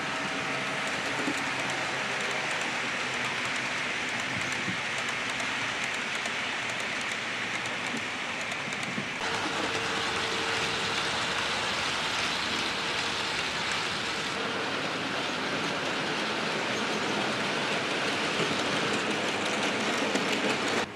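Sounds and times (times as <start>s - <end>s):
model train whirring rattle: 0.0s - 20.9s.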